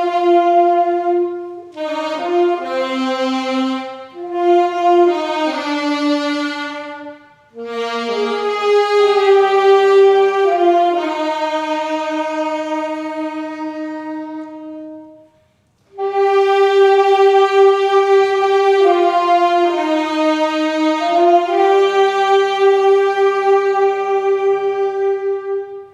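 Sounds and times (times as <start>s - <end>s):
reedy wind instrument melody: 0.0s - 25.9s
soft low accompaniment: 0.0s - 25.9s.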